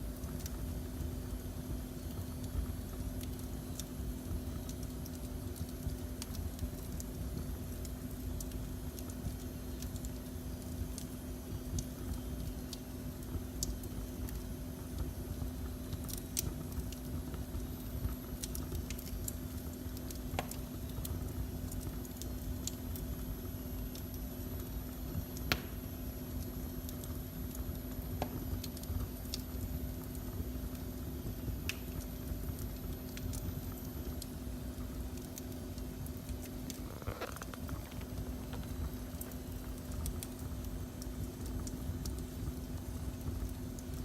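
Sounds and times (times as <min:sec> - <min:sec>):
faint steady hum: 0:00.0 - 0:44.0
fire pops and crackles: 0:00.0 - 0:44.0
wood fire rumbling: 0:00.0 - 0:44.0.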